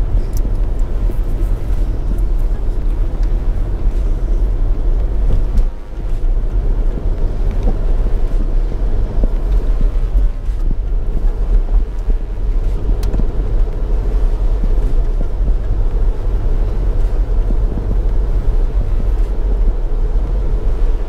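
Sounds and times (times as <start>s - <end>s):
car road noise rumble: 0.0s - 21.0s.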